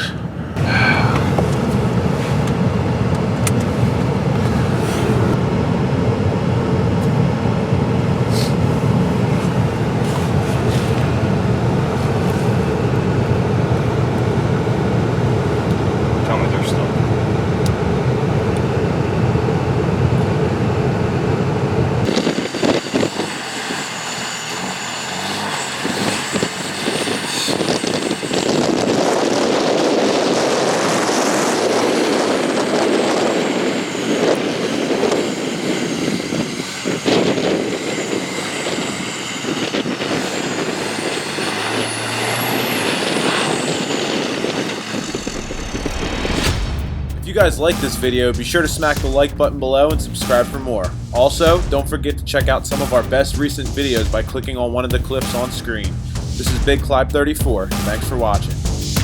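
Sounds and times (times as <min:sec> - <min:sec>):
diesel truck engine under load: 0:00.0 - 0:05.9, 0:06.6 - 0:57.7
high whine: 0:00.0 - 0:59.0.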